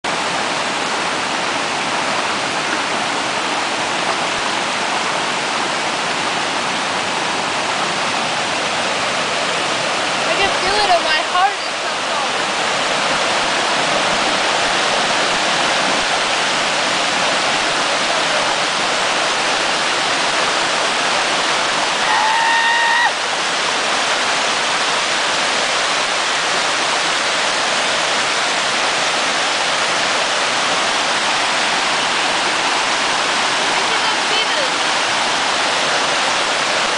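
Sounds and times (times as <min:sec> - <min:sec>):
water rushing over rock ledges: 0:00.0 - 0:36.9.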